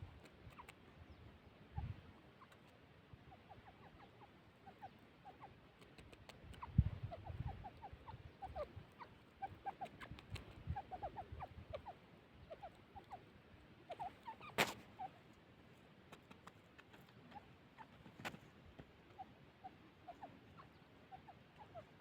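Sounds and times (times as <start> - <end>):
birds chirping calls: 0.0 - 15.4, 16.1 - 22.0.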